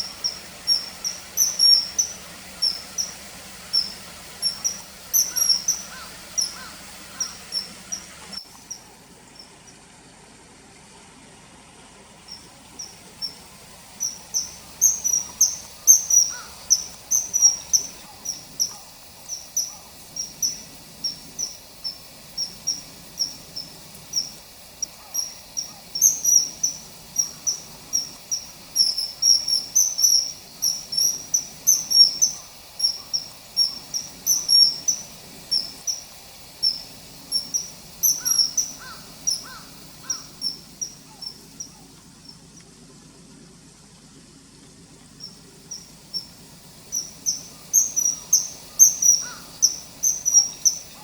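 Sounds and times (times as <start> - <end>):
kingfisher calling: 0.0 - 9.6, 12.3 - 42.4, 45.2 - 51.0
lower bird notes: 0.0 - 9.8, 12.2 - 42.5, 45.2 - 51.0.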